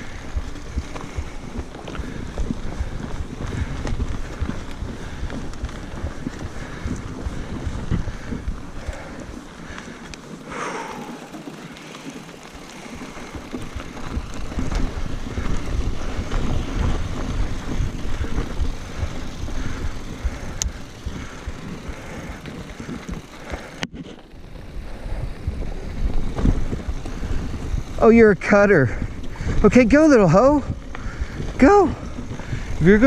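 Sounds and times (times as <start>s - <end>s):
wind rushing over microphone: 0.0s - 9.3s, 13.2s - 23.4s, 24.5s - 33.0s
bike rattling over rough ground: 0.0s - 33.0s.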